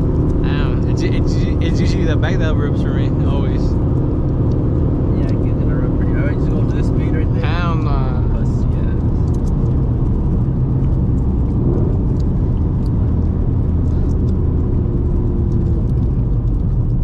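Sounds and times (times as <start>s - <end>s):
road and tire rumble in car: 0.0s - 17.0s.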